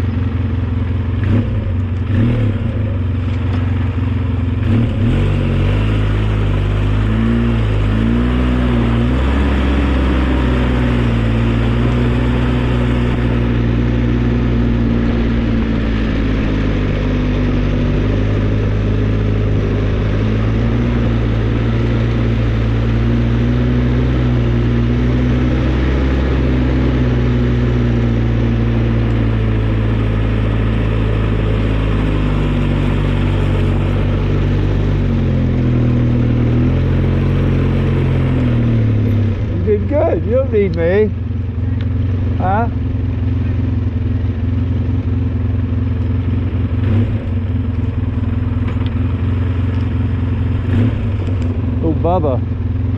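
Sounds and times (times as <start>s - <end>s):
snowplow engine running: 0.0s - 52.9s.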